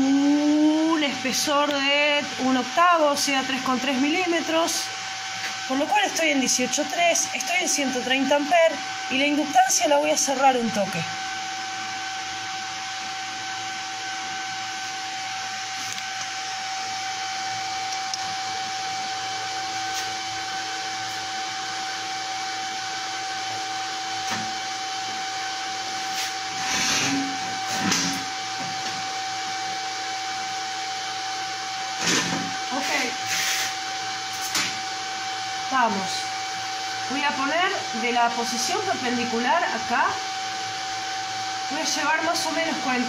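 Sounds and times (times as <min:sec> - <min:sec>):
electric fan humming: 0:00.0 - 0:43.0.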